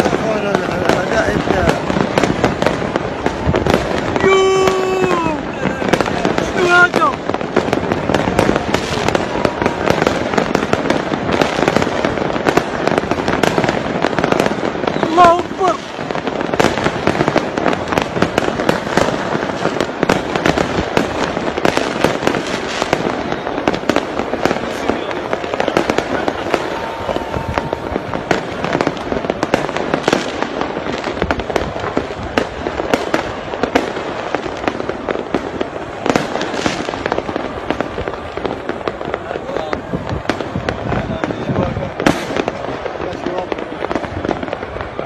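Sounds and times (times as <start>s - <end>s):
firecrackers crackling: 0.0s - 45.0s
fireworks bangs: 0.0s - 45.0s
voices: 0.0s - 45.0s.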